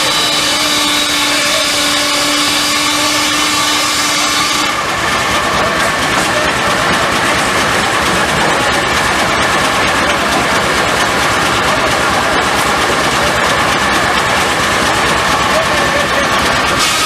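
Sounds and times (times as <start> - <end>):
sawmill machinery running: 0.0 - 17.0.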